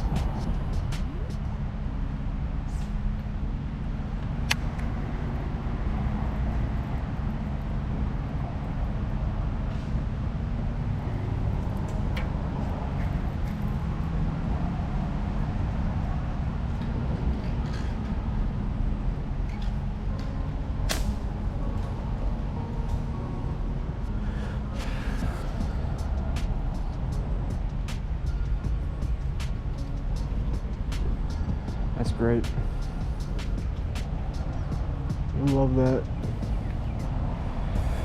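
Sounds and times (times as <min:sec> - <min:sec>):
low outdoor rumble: 0:00.0 - 0:38.0.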